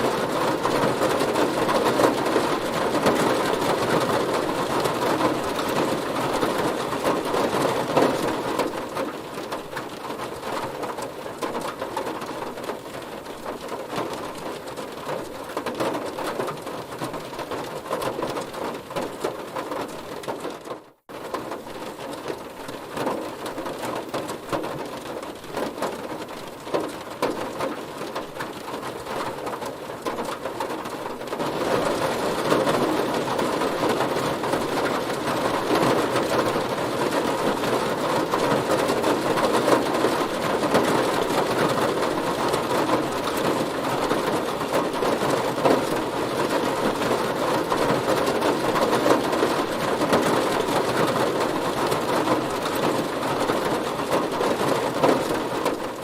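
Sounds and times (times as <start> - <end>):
heavy rain drumming on a car: 0.0 - 56.0.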